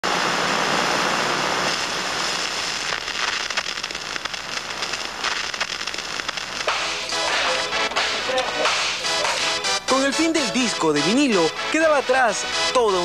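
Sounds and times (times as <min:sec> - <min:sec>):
vinyl crackles and pops: 0:00.0 - 0:12.1
vinyl record surface hiss: 0:00.0 - 0:13.0.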